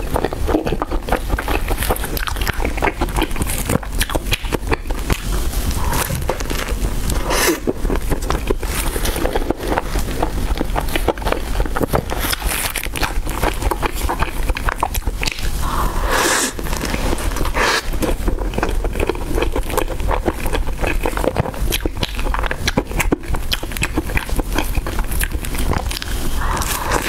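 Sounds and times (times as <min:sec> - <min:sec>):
breathy mouth sounds: 0:00.0 - 0:19.8, 0:20.8 - 0:27.0
crunchy pastry chewing: 0:00.0 - 0:27.0.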